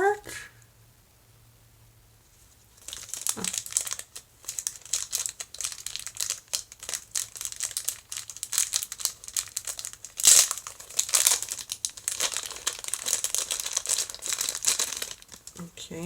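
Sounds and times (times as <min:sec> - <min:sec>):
packaging crinkling: 0:02.7 - 0:15.9.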